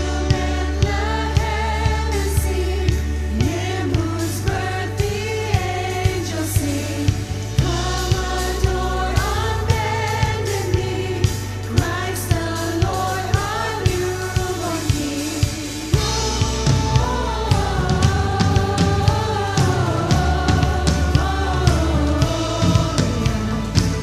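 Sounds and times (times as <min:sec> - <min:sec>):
bass: 0:00.0 - 0:24.0
steady drum beat: 0:00.0 - 0:24.0
voices singing together: 0:00.0 - 0:24.0.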